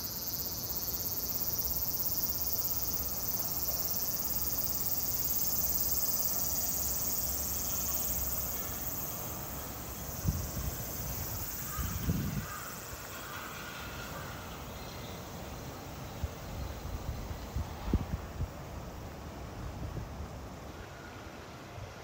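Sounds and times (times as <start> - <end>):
cicadas buzzing: 0.0 - 21.1.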